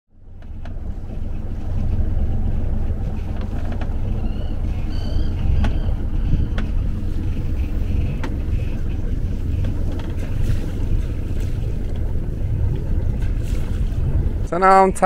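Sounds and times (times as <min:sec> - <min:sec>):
boat engine rumbling: 0:00.1 - 0:15.0.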